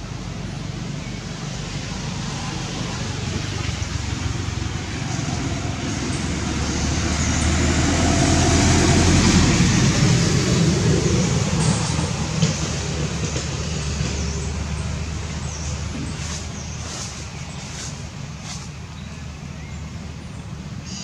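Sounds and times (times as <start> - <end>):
vehicle engine passing: 1.5 - 19.0.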